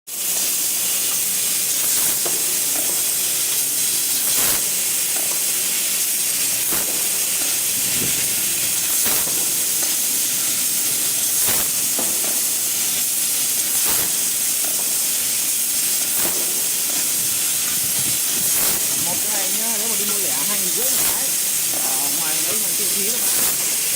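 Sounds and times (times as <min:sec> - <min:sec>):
loud hiss of cutting gas: 0:00.1 - 0:23.9.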